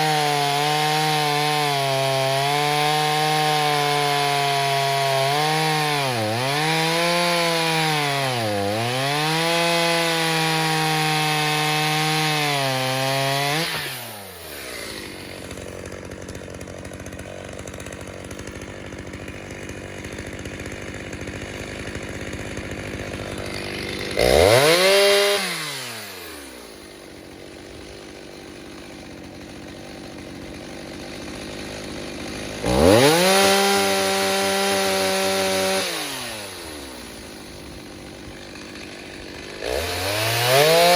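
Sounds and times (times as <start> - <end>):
chainsaw cutting wood: 0.0 - 40.9
chainsaw idling: 0.0 - 40.9
chainsaw revving: 0.0 - 40.9.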